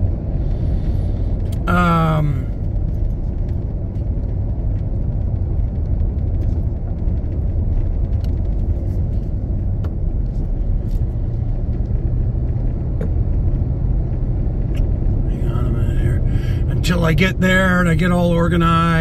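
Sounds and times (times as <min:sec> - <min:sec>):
truck engine and tyre rumble: 0:00.0 - 0:19.0.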